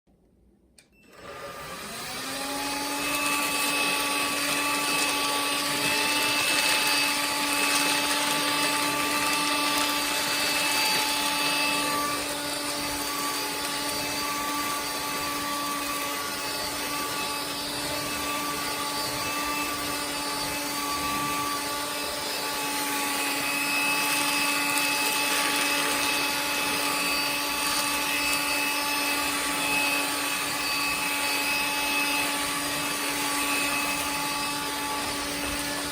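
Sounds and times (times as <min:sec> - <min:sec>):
stick vacuum motor whining: 0:00.8 - 0:35.9.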